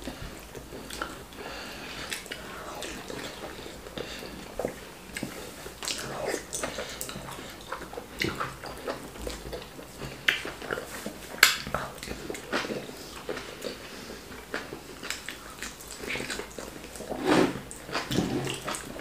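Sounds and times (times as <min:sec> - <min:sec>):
chewing and mouth smacks: 0:00.1 - 0:01.4, 0:02.0 - 0:19.0.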